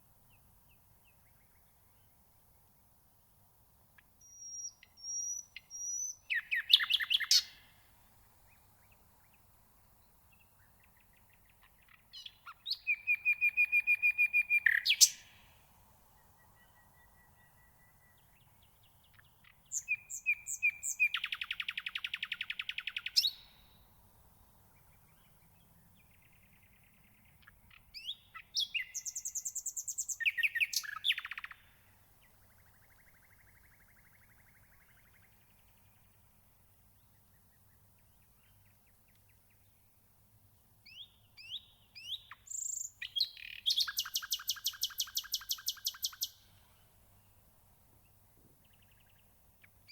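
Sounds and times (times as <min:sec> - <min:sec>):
nightingale singing trills: 0:03.9 - 0:40.1, 0:40.8 - 0:49.9.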